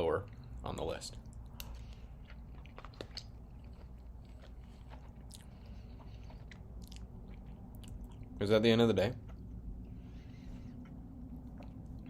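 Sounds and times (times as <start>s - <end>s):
person chewing: 0.2s - 8.4s, 9.2s - 12.0s.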